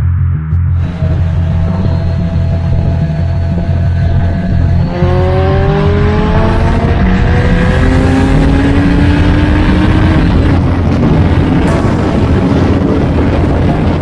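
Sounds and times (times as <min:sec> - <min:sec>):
motorcycle engine accelerating: 0:00.7 - 0:14.0
wind and road noise: 0:00.8 - 0:14.0.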